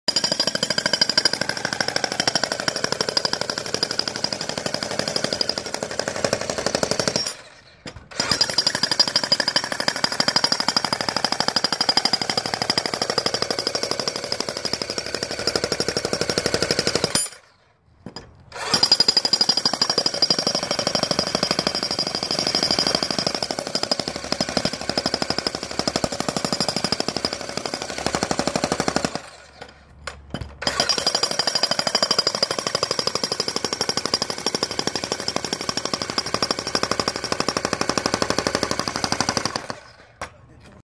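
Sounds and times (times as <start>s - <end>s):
electric breaker hammer pounding concrete: 0.1s - 7.4s, 8.1s - 17.4s, 18.6s - 29.7s, 30.6s - 39.9s.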